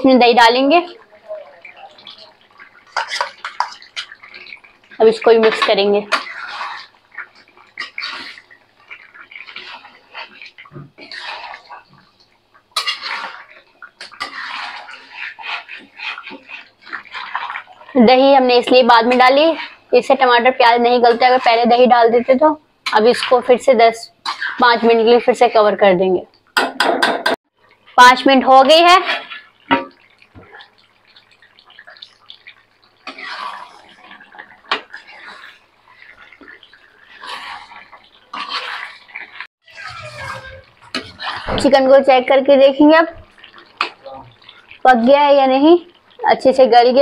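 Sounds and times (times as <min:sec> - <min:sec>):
gravy bubbling: 0:00.0 - 0:26.6, 0:27.6 - 0:47.0
spoon stirring thick stew: 0:01.6 - 0:23.6, 0:24.2 - 0:25.9, 0:27.6 - 0:47.0.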